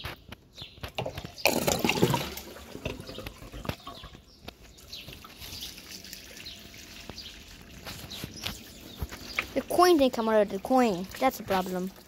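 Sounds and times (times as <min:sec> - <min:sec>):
water trickling down pipe: 0:01.0 - 0:12.0.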